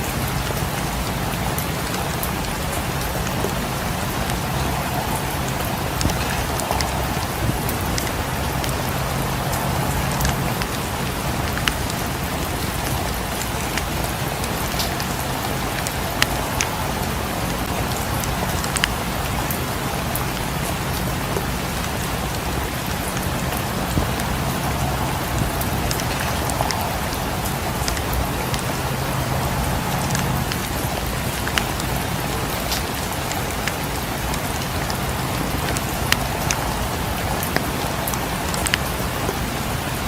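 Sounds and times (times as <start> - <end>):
steady rain: 0.0 - 40.0
wood fire crackling and popping: 1.4 - 39.8.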